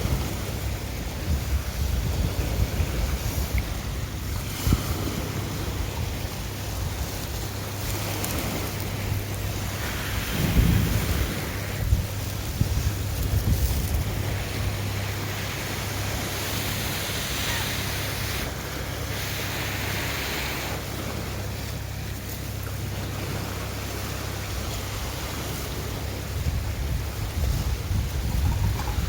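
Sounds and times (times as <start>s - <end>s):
wind on microphone: 0.0s - 21.6s, 22.9s - 29.0s
surf washing on shore: 0.0s - 29.0s.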